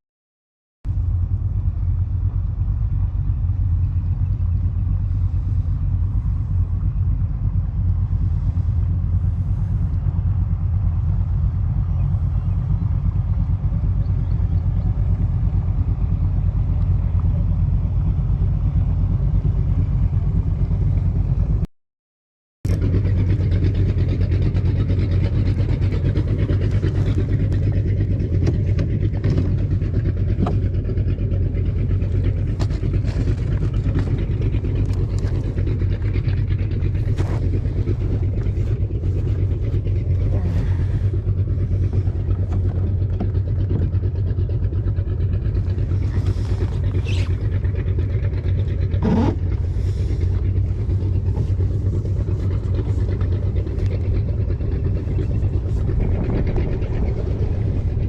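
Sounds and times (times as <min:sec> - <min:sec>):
vehicle rumble: 0:00.8 - 0:21.7, 0:22.6 - 0:58.0.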